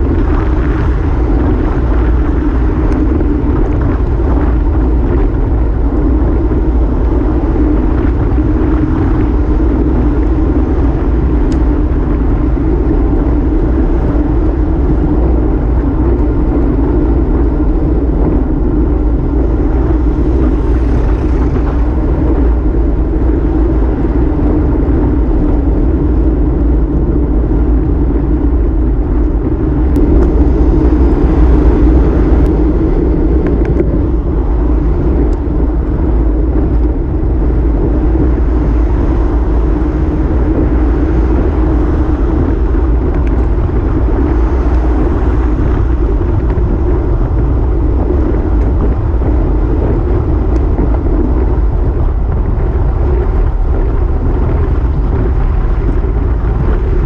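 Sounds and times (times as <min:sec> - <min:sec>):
road rumble: 0:00.0 - 0:57.0
wind buffeting microphone: 0:00.0 - 0:57.0.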